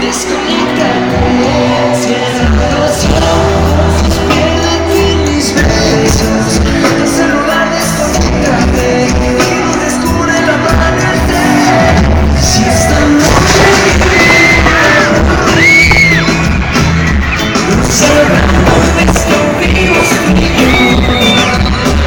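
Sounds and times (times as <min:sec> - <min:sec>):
amplified pop band music: 0:00.0 - 0:22.0
heavy bass line: 0:00.0 - 0:22.0
person singing: 0:00.0 - 0:22.0.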